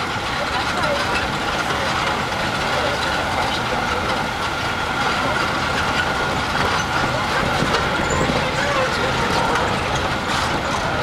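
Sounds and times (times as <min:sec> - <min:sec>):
tram motor and road noise: 0:00.0 - 0:11.0.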